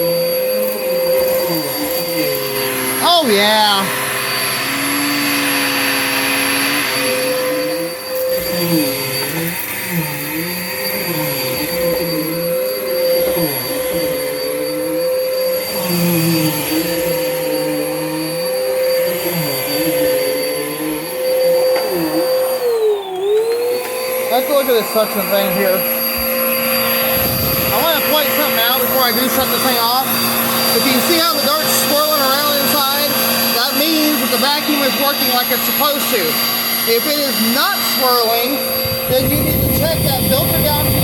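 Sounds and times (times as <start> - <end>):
vacuum cleaner motor whine: 0.0 - 41.0.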